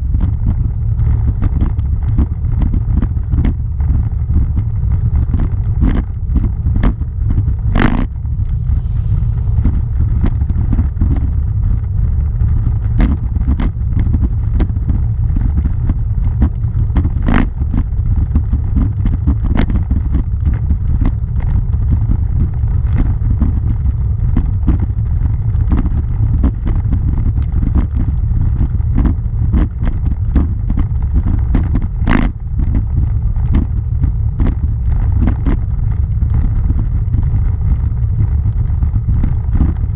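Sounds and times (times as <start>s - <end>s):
bike rumbling over cobblestones: 0.0s - 39.9s.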